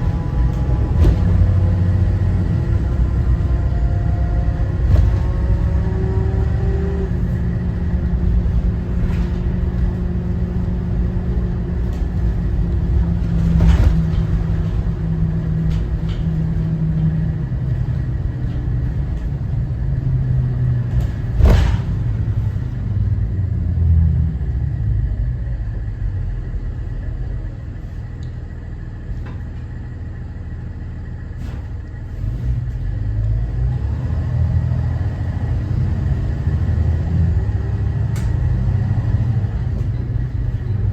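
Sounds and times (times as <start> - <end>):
bus diesel engine droning: 0.0 - 40.9
road rumble: 0.0 - 40.9.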